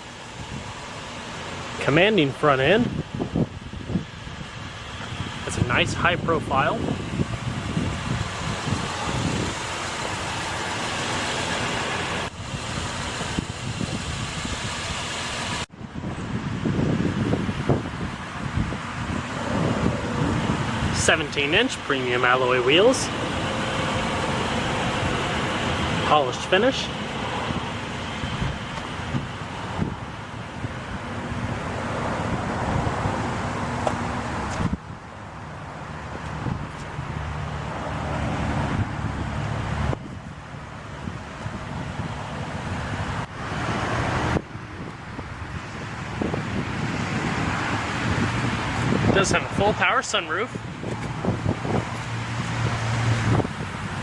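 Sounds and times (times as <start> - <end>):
vehicle idling: 0.0 - 54.0
wind on microphone: 2.8 - 10.6, 12.3 - 21.8, 27.2 - 54.0.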